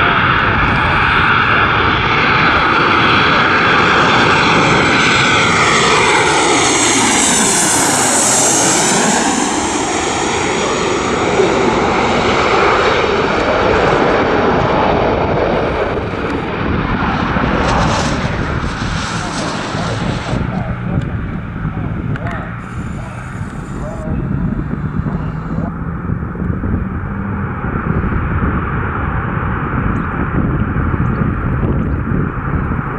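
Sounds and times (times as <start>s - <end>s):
airplane engines roaring past: 0.0s - 32.9s.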